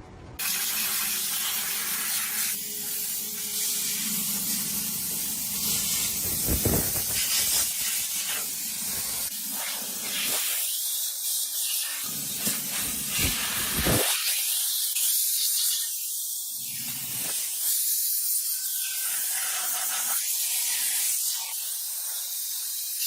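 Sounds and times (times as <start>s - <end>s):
loud hiss of air jet: 0.4s - 23.0s.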